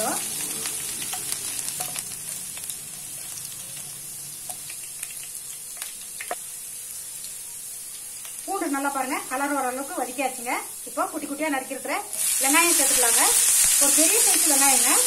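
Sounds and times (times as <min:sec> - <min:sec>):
garlic sizzling in hot oil: 0:00.0 - 0:15.0.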